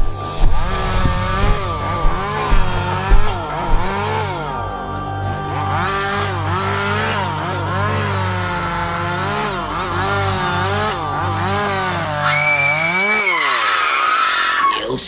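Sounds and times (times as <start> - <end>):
high-pitched held tone: 0.0 - 13.8
chainsaw engine revving: 0.0 - 14.6.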